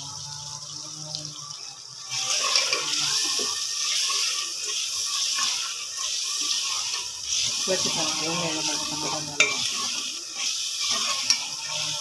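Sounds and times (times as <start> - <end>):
masala sizzling in a pan: 0.0 - 12.0.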